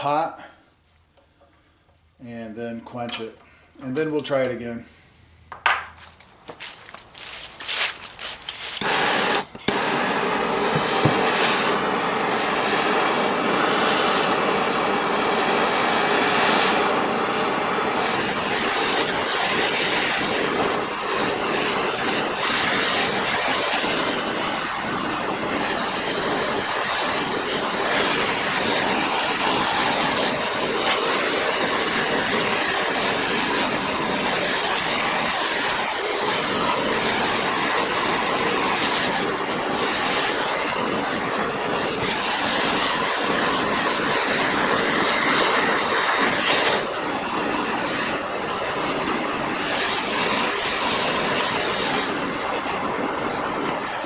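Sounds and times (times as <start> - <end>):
blowtorch flame hissing: 6.6 - 54.0
blowtorch ignition click: 7.7 - 52.6.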